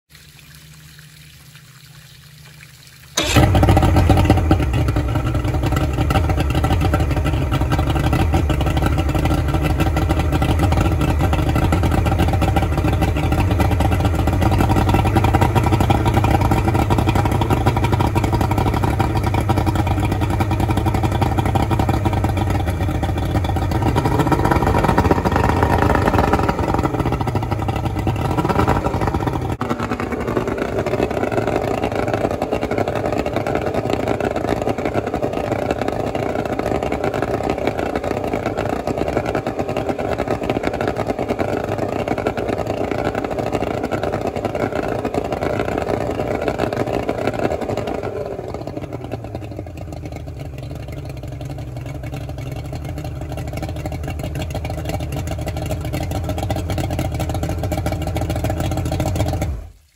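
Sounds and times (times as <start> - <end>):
outboard engine idling: 0.6 - 59.9.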